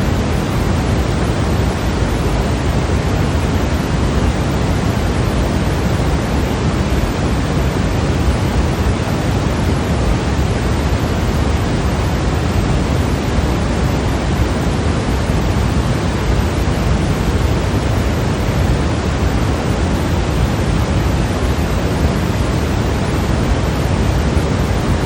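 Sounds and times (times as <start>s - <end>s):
steady white noise: 0.0s - 25.0s.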